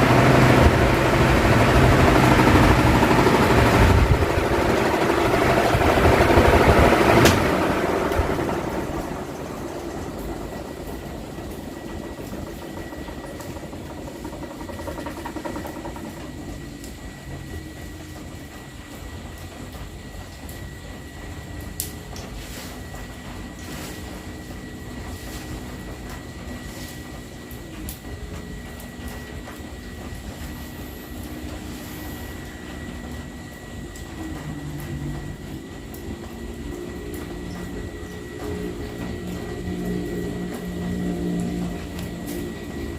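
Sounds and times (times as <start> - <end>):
electric fan running: 0.0 - 42.9
thin high whine: 0.0 - 42.9.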